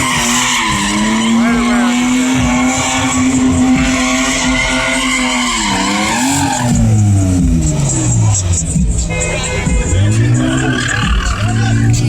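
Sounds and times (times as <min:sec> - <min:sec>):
car engine revving: 0:00.0 - 0:12.0
tyres screeching: 0:00.0 - 0:12.0.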